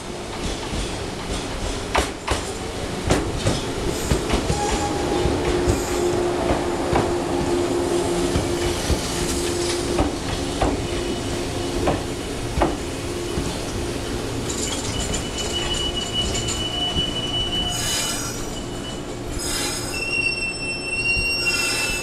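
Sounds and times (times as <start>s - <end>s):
train wheels clacking over rail joints: 0.2s - 7.6s, 8.2s - 18.5s.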